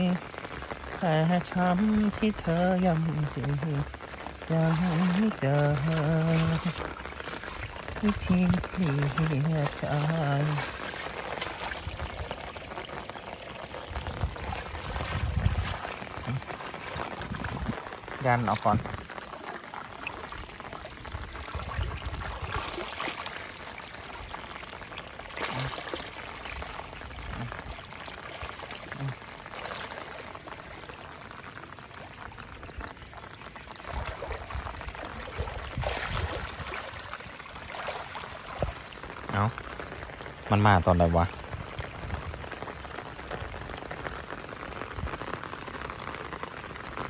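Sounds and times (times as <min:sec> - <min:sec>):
water pouring and rushing: 0:00.0 - 0:47.0.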